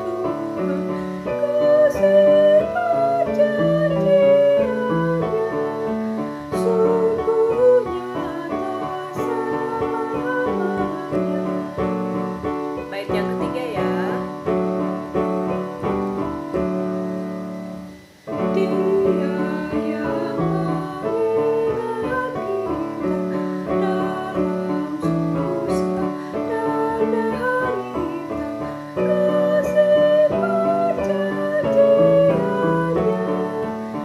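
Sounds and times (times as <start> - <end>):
woman singing: 0.0 - 14.6, 18.3 - 34.0
hymn on piano: 0.0 - 34.0.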